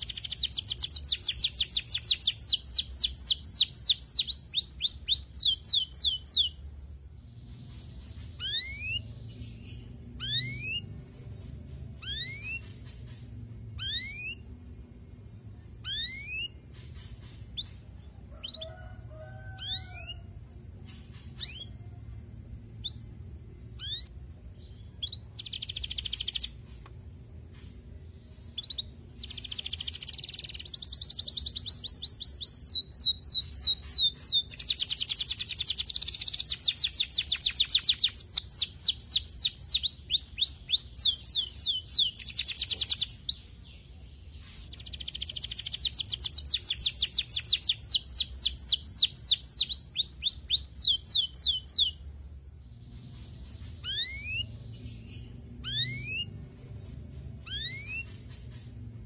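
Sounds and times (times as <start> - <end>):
canary singing rapid trills: 0.0 - 59.0.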